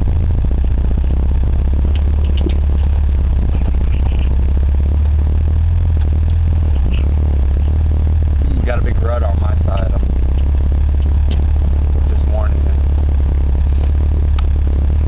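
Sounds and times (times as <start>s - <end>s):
vehicle engine droning: 0.0s - 15.0s
sharp clicks: 0.5s - 8.4s, 9.3s - 15.0s.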